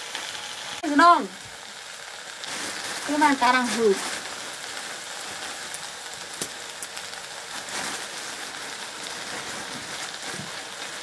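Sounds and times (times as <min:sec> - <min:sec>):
greens sizzling in a pan: 0:00.0 - 0:11.0
sharp crackle: 0:00.0 - 0:11.0.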